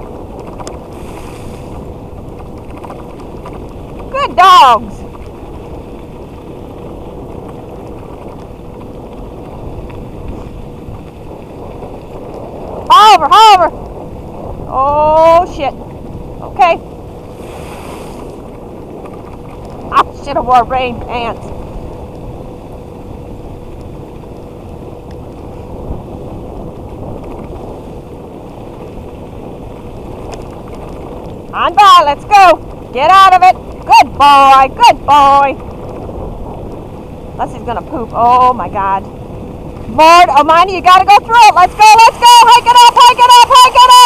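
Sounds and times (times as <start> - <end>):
faint steady whine: 0.0 - 44.0
tyres rumbling on trail: 0.0 - 44.0
wind on microphone: 0.0 - 44.0.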